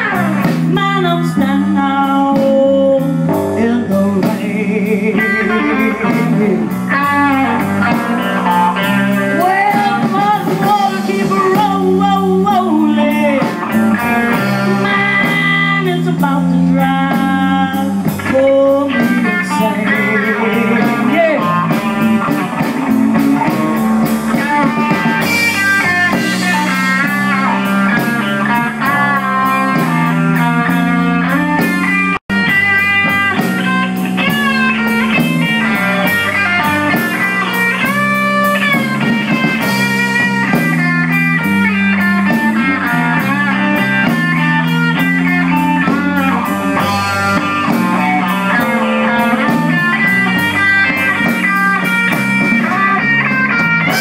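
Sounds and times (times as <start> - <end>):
electric blues guitar solo: 0.0 - 54.0
steady bass line: 0.0 - 54.0.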